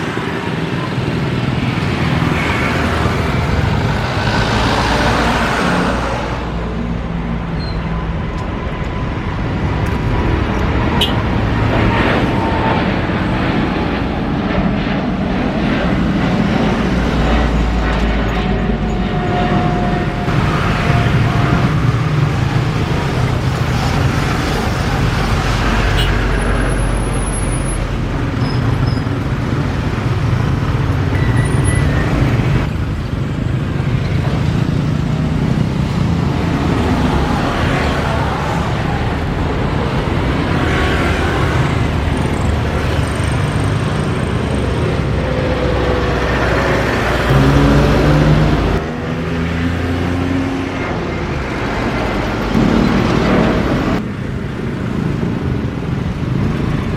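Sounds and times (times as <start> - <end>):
loud engine rumble: 0.0 - 56.9.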